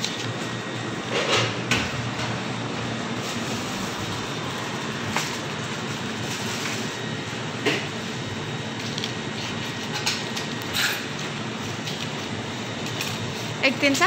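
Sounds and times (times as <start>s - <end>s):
shop ambience hum: 0.0s - 14.0s.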